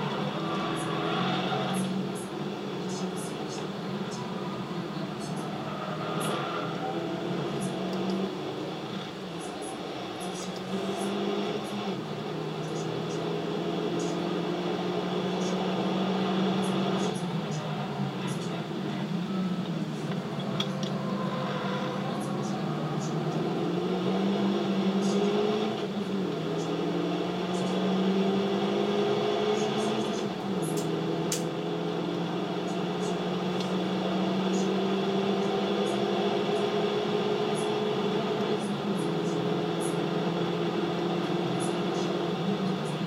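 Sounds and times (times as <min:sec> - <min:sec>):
racing car engine through speakers: 0:00.0 - 0:43.0.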